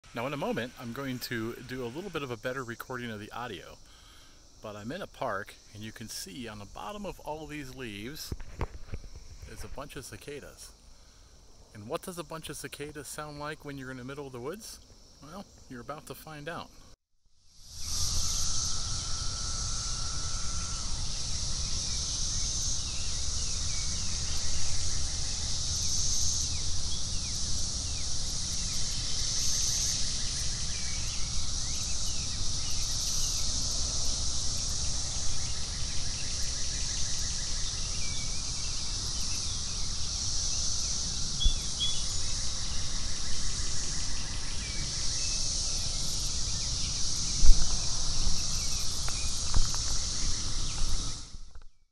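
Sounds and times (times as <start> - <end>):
cicadas humming: 0.0 - 51.8.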